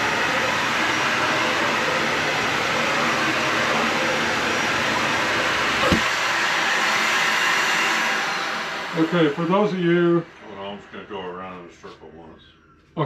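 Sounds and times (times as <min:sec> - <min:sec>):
vacuum cleaner on carpet: 0:00.0 - 0:11.7.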